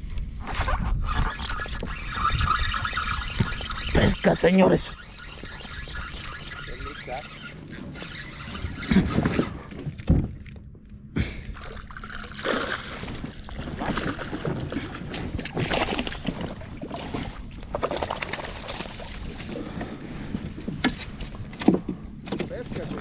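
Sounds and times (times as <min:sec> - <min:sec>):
water sloshing around boat: 0:00.5 - 0:23.0.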